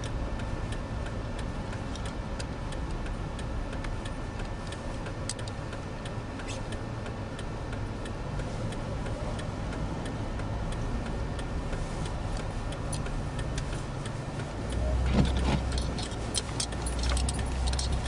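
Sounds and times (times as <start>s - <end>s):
car engine and road hum: 0.0s - 18.0s
light regular ticking: 0.0s - 18.0s
sharp clicks: 1.4s - 18.0s.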